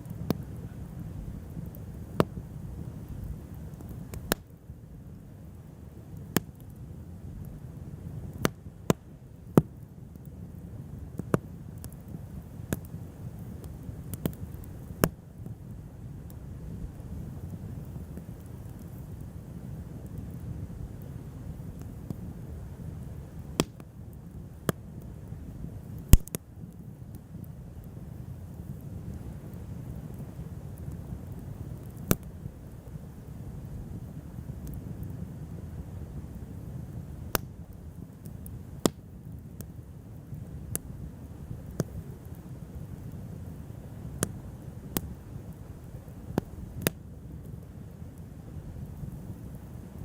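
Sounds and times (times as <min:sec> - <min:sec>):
bonfire crackling pops: 0:00.0 - 0:50.0
low fire rumble: 0:00.0 - 0:50.0.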